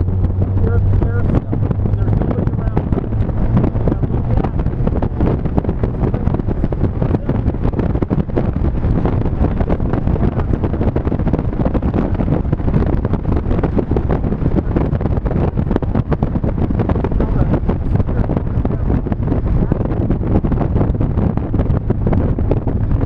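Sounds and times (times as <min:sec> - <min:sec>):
car running and road noise: 0:00.0 - 0:23.0
wind buffeting microphone: 0:00.0 - 0:23.0.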